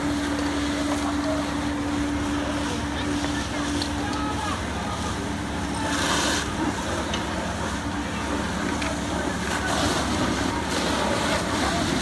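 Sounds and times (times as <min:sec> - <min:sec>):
fire engines humming: 0:00.0 - 0:12.0
noisy background: 0:00.0 - 0:12.0.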